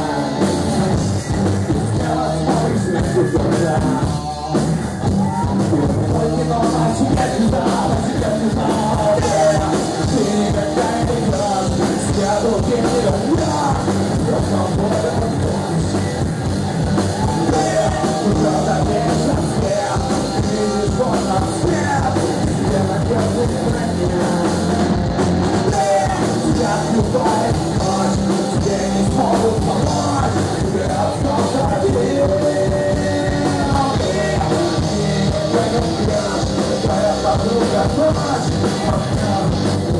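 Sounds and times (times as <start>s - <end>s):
live rock band playing: 0.0s - 39.9s
singer shouting and singing: 0.0s - 39.9s.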